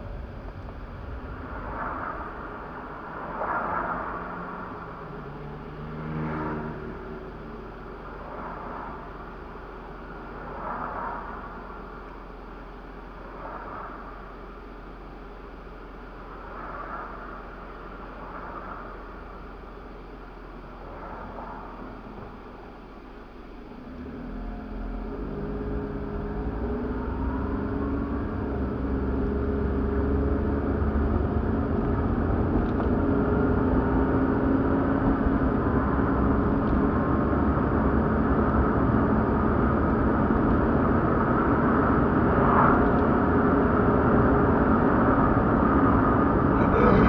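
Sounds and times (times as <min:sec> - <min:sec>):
car engine accelerating: 0:00.0 - 0:14.2, 0:20.7 - 0:47.0
road noise: 0:00.0 - 0:47.0.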